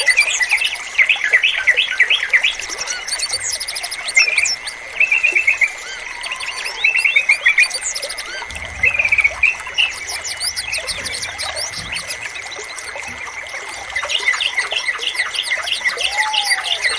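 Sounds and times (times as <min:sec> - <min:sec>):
small birds twittering: 0:00.0 - 0:16.9.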